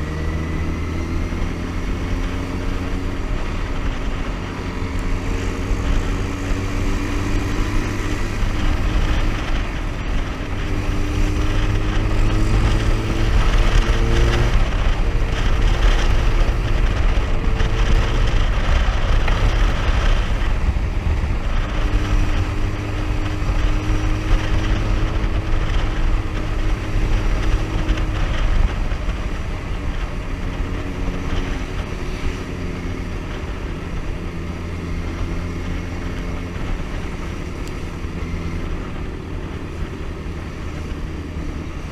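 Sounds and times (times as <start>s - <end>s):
motorcycle engine accelerating: 0.0s - 41.9s
wind noise: 0.0s - 41.9s.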